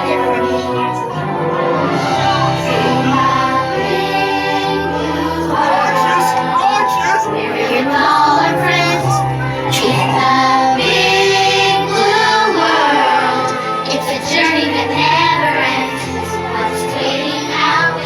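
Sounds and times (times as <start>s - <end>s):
child-like and female voices singing: 2.4s - 18.0s.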